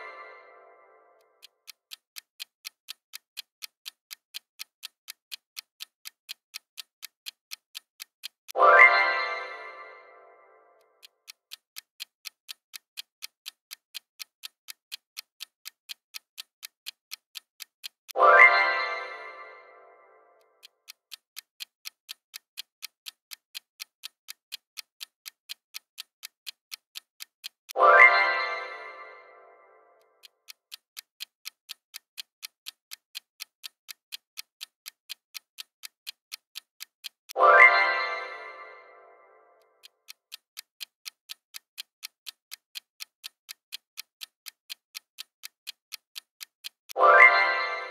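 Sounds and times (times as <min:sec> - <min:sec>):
clock ticking: 0:00.0 - 0:47.9.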